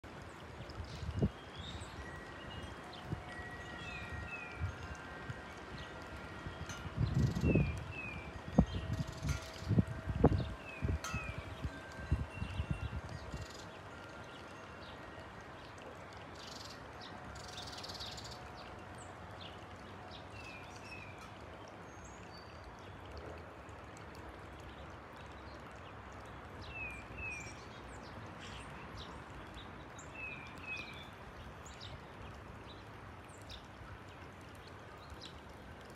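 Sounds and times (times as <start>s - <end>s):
faint outdoor background noise: 0.0s - 35.9s
songbirds chirping: 0.0s - 35.9s.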